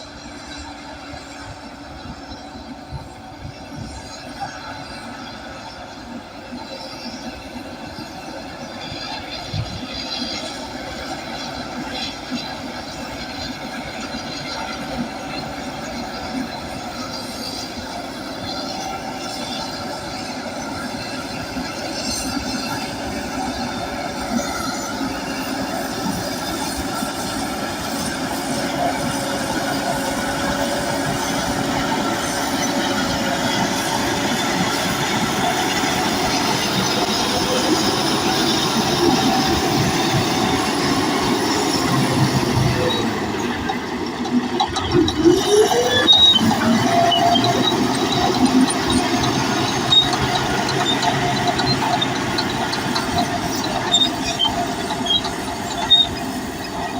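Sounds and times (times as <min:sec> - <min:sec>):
bulldozer diesel engine running: 0:00.0 - 0:56.9
steel crawler tracks clanking: 0:00.0 - 0:56.9.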